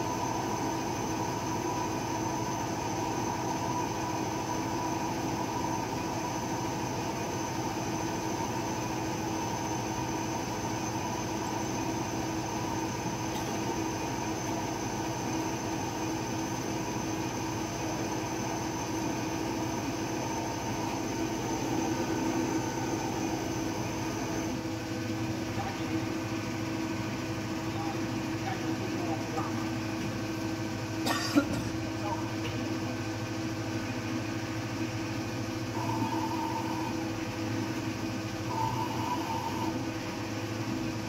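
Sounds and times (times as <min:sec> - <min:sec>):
lathe high whine: 0:00.0 - 0:31.1, 0:32.8 - 0:41.0
lathe mechanical hum: 0:00.0 - 0:41.0.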